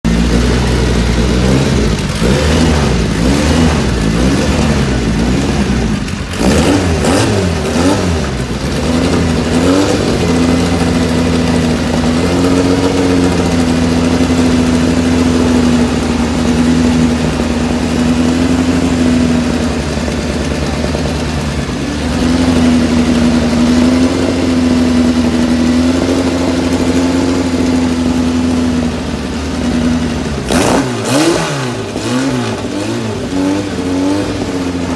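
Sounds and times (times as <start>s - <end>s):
racing car engine revving: 0.1s - 34.9s.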